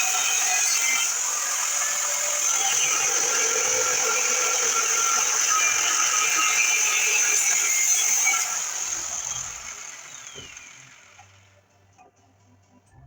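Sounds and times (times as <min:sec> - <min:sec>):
angle grinder whining: 0:00.0 - 0:11.6.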